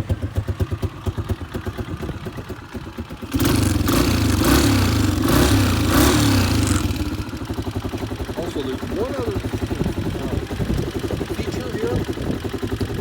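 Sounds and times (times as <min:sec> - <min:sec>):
engine idling and revving: 0:00.0 - 0:13.0.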